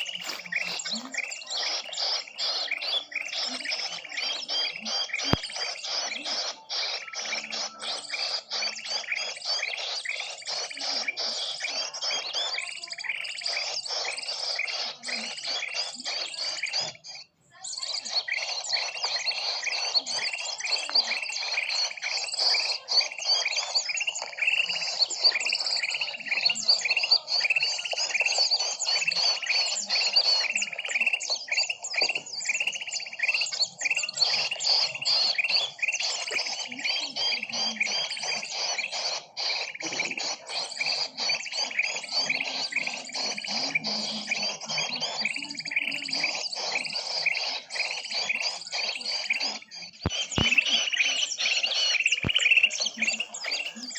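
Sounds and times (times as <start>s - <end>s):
recorded small birds chirping: 0.0s - 53.9s.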